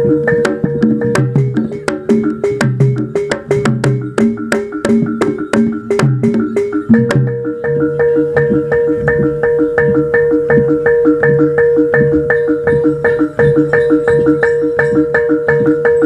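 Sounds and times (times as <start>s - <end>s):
gamelan mallet strikes: 0.0s - 16.0s.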